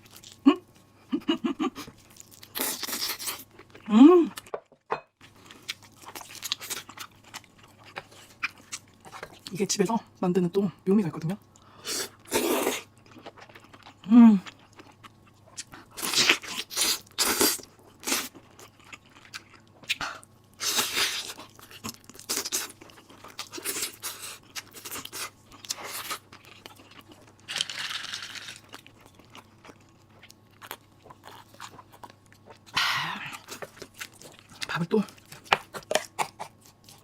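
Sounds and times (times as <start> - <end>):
crunchy food chewing: 1.7 - 4.5, 5.2 - 9.5, 12.1 - 37.0.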